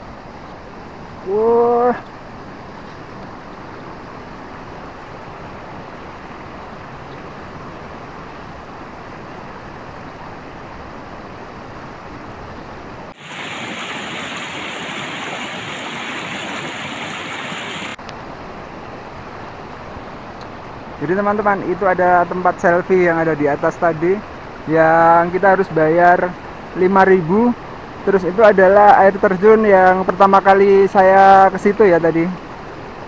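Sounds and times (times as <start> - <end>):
river and waterfall rushing: 0.0 - 33.0.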